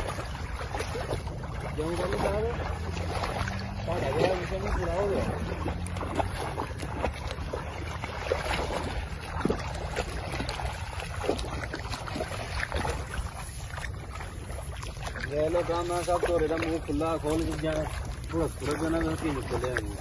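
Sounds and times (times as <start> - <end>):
feet wading through muddy water: 0.0 - 20.0
wind rumbling on microphone: 0.0 - 20.0.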